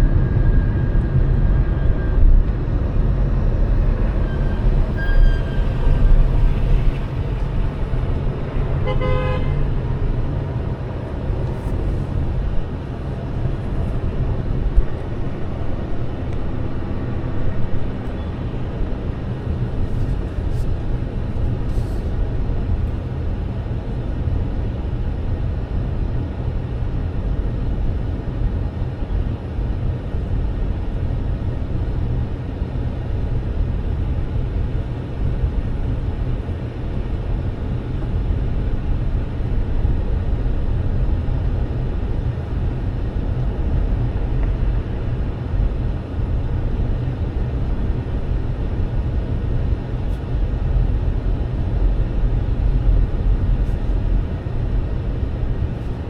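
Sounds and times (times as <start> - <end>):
car driving rumble: 0.0 - 56.0.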